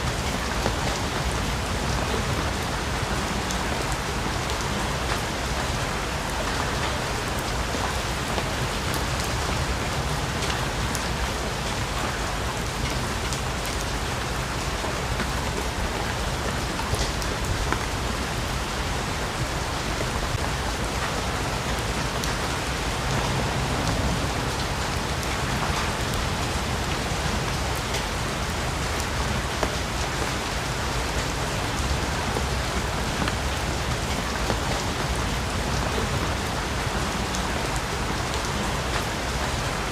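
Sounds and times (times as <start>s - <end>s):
rain drops ticking: 0.0s - 39.9s
steady rain: 0.0s - 39.9s.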